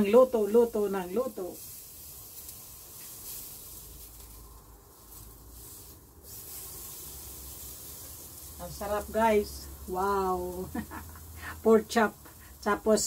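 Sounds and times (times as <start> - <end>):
food sizzling on a grill: 0.0 - 13.0.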